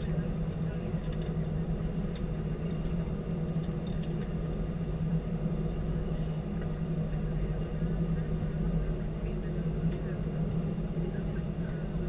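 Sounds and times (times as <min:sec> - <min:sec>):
aircraft cabin engine hum: 0:00.0 - 0:12.0.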